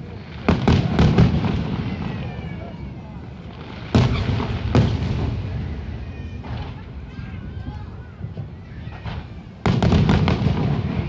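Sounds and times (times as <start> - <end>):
crowd voices: 0.0 - 11.0
fireworks shells booming: 0.0 - 11.0.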